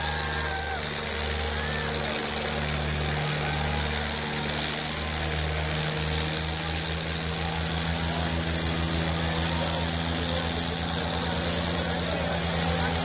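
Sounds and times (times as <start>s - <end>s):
tractor engines running under load: 0.0s - 13.0s.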